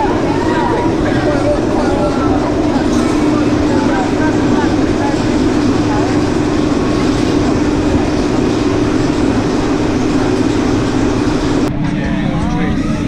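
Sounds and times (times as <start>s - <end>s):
roller coaster lift mechanism drone: 0.0s - 13.0s.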